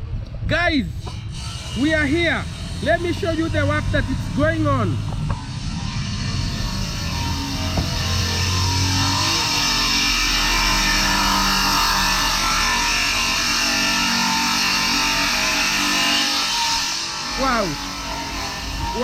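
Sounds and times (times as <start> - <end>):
saw cutting timber: 0.9 - 19.0.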